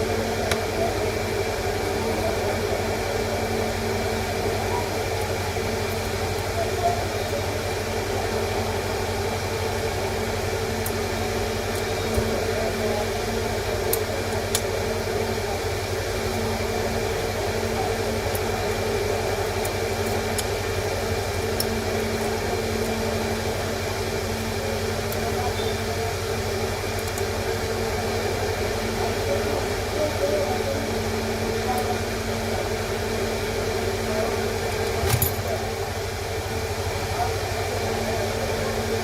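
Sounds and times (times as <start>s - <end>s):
machine hum and hiss: 0.0s - 39.0s.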